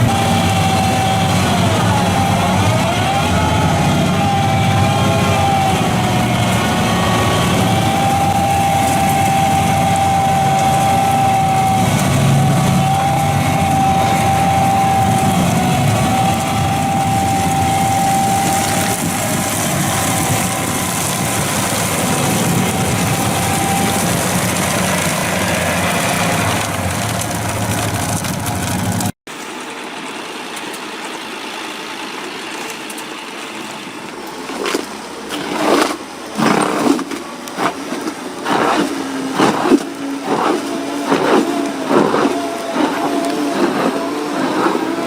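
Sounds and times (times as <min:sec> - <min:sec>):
high whine: 0:00.0 - 0:30.2, 0:31.1 - 0:45.0
diesel engine running: 0:00.0 - 0:45.0.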